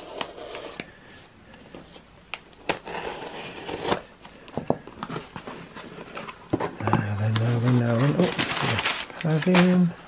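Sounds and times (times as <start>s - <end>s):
tape and cardboard rustling: 1.7s - 9.9s.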